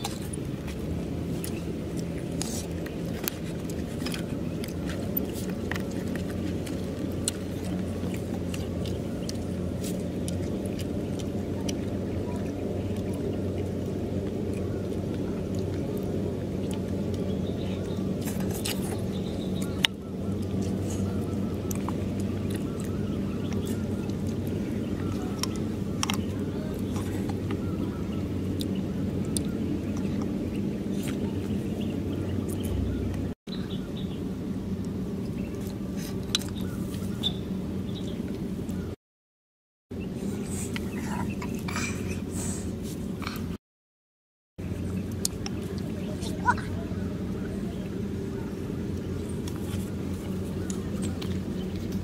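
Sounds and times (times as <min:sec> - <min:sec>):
steady low hum: 0:00.0 - 0:39.0, 0:39.9 - 0:43.6, 0:44.6 - 0:52.0.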